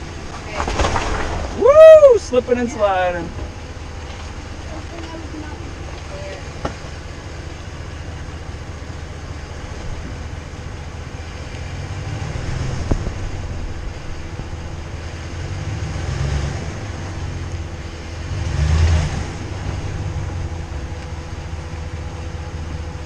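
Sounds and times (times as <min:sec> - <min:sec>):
pickup truck engine rumbling: 0:00.0 - 0:23.0.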